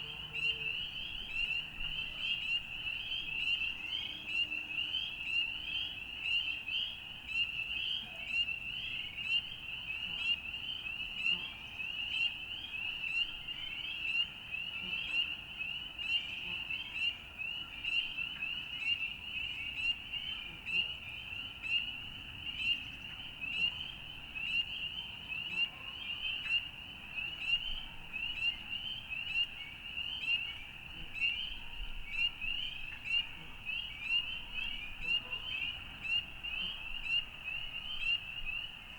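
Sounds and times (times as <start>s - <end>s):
frog chorus: 0.0s - 38.9s.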